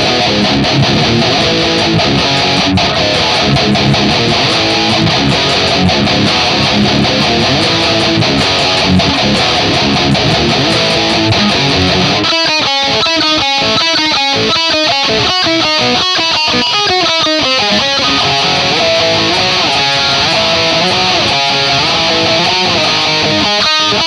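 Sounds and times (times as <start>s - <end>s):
distorted electric guitar riffing: 0.0s - 24.0s.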